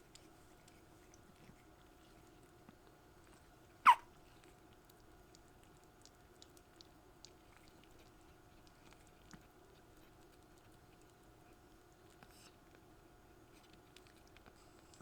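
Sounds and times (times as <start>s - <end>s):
faint ticks and scratches: 0.0s - 15.0s.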